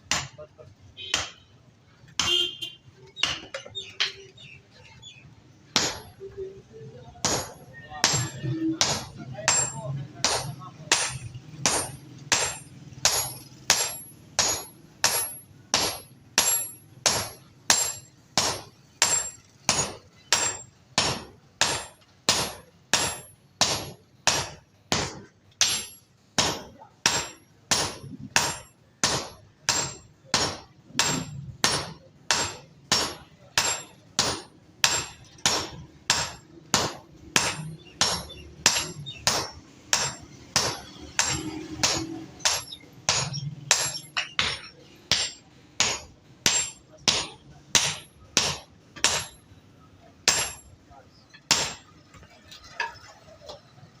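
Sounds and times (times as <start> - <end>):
hammer striking metal on anvil: 1.1 - 1.4, 5.7 - 6.3, 7.2 - 49.5, 50.2 - 52.0.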